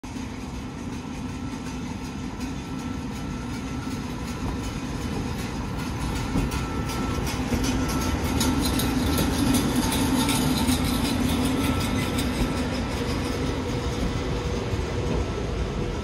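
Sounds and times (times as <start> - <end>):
train hum and rumble: 0.0 - 16.0
wheels clicking on track: 0.1 - 16.0.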